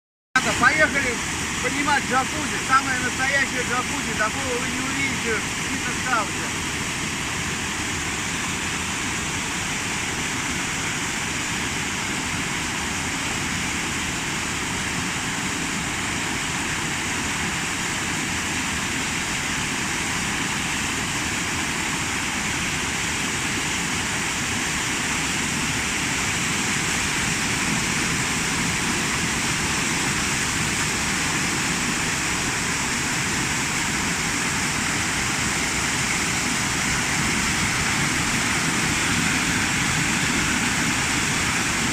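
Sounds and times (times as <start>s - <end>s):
waterfall rushing: 0.4s - 41.9s.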